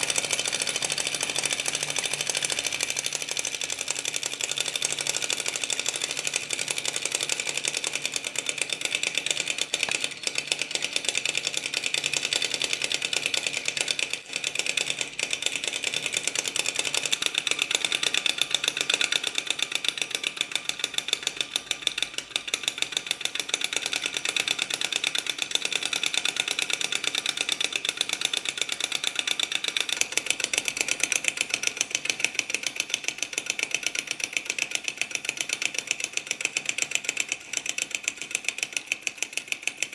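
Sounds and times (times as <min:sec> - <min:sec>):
model engine rapid clicking: 0:00.0 - 0:39.9.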